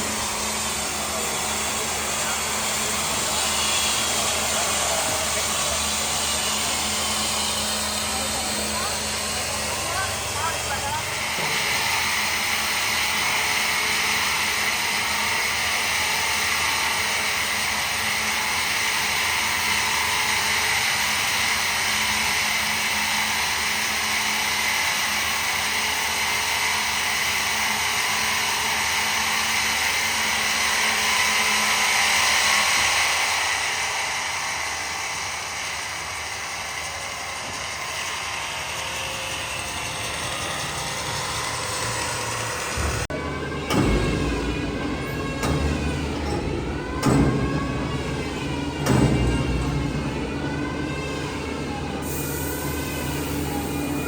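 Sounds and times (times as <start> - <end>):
woodworking machine running: 0.0 - 54.0.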